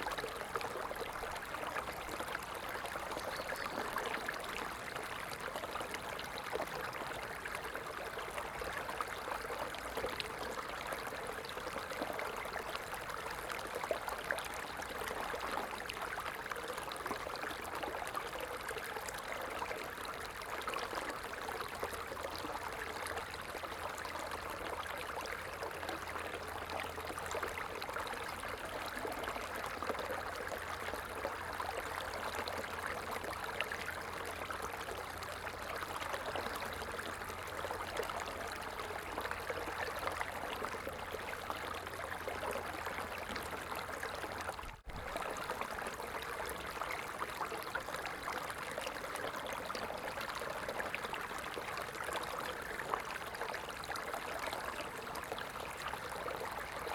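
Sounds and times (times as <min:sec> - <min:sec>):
stream babbling over stones: 0:00.0 - 0:56.9.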